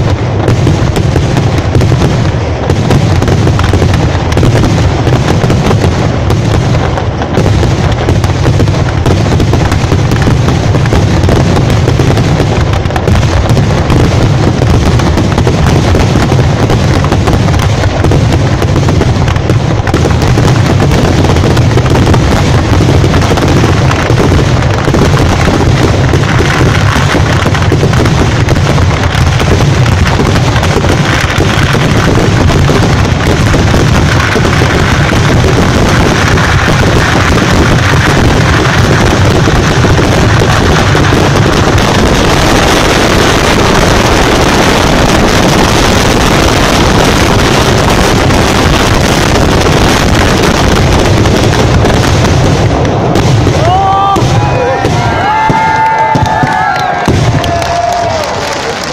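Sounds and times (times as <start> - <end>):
rapid firecracker bangs: 0.0 - 58.9.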